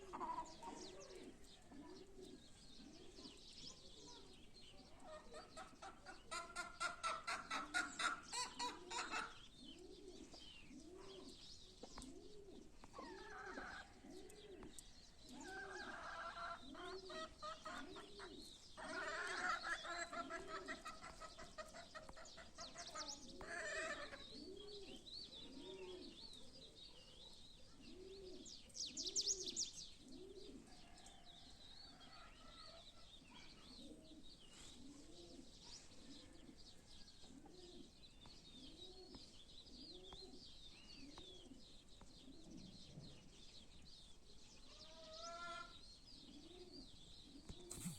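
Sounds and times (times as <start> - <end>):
dove cooing: 0.0 - 43.8, 44.7 - 47.9
songbirds chirping and trilling: 0.0 - 47.9.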